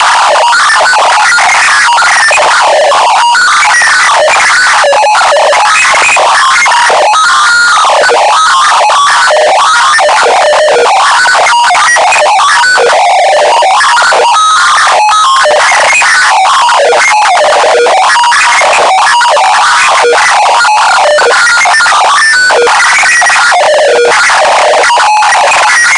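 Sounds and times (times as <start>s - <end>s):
harsh distorted noise: 0.0s - 25.9s.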